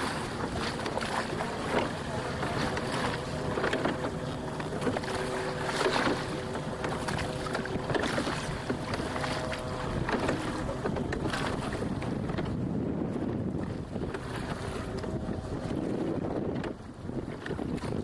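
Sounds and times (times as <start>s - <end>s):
water splashing against boat hull: 0.0s - 18.0s
wind buffeting microphone: 0.0s - 18.0s.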